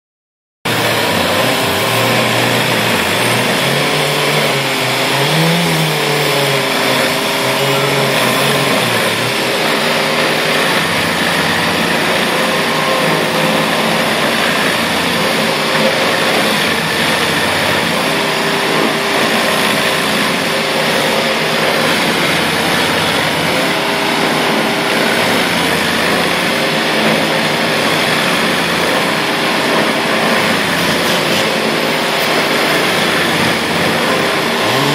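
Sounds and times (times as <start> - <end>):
stump grinder grinding: 0.7 - 34.9.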